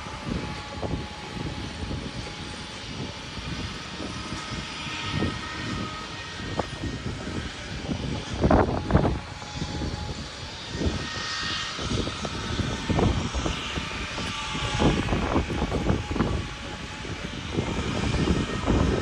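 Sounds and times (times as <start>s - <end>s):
jet engine rumble with whine: 0.0s - 19.0s
wind buffeting microphone: 0.0s - 19.0s.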